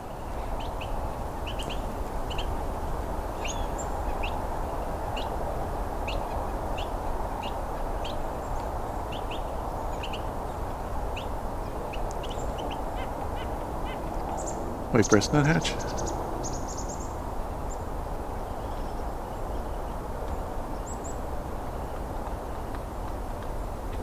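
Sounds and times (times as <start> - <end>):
songbirds chipping: 0.0 - 22.8.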